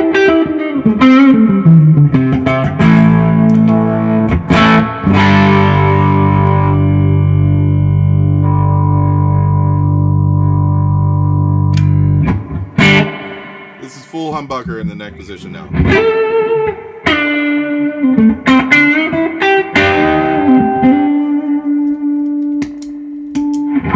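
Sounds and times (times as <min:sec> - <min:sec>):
electric guitar notes and chords: 0:00.0 - 0:23.9.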